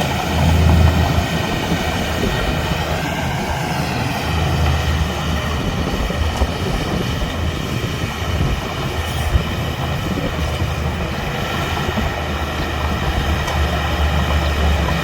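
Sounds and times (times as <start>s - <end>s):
diesel machinery engine drone: 0.0s - 15.0s.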